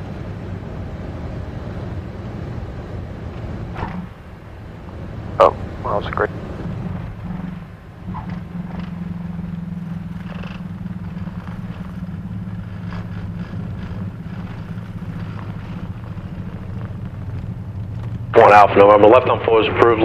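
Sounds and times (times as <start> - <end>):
piston engine low drone: 0.0 - 20.0.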